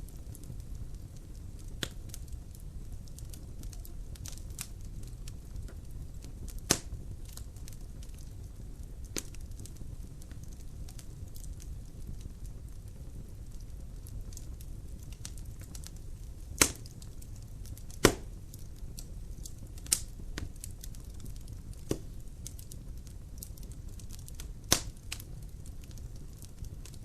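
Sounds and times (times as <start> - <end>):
burning wood popping: 0.0 - 27.0
fire rumble: 0.0 - 27.0
wood crackling: 0.0 - 27.0.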